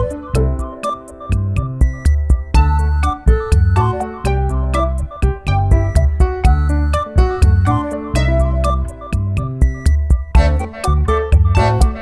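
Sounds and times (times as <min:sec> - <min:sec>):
synthesizer music with beat: 0:00.0 - 0:12.0.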